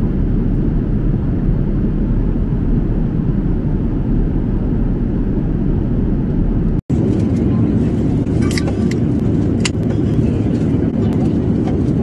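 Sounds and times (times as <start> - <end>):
airliner cabin noise rumble: 0.0 - 12.0.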